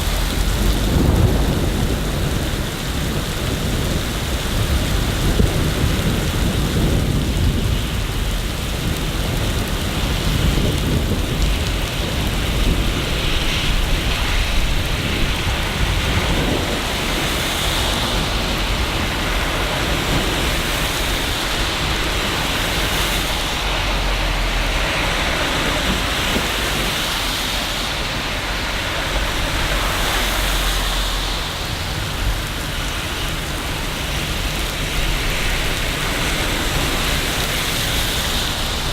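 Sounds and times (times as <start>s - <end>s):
rain on hard surfaces: 0.0s - 38.9s
thunder rumbling: 0.0s - 38.9s.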